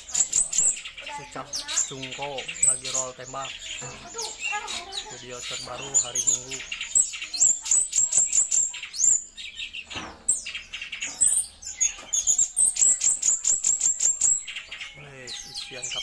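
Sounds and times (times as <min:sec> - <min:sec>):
bird singing fast rolling song: 0:00.0 - 0:16.0.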